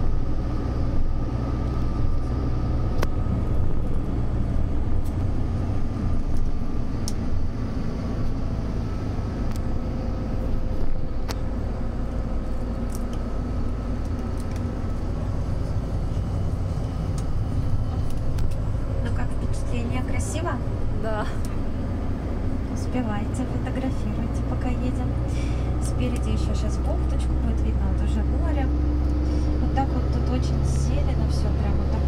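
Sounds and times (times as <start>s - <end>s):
bus engine and road rumble: 0.0s - 32.0s.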